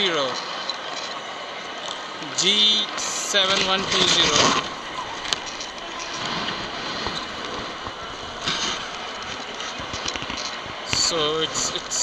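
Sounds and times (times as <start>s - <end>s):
busy station hall din: 0.0s - 12.0s.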